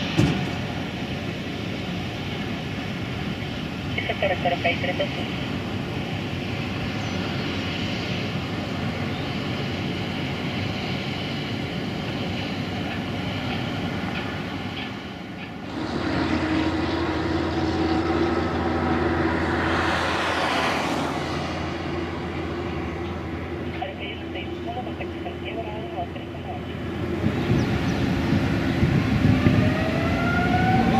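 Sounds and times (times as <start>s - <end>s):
jet engines roaring with whine: 0.0s - 30.9s.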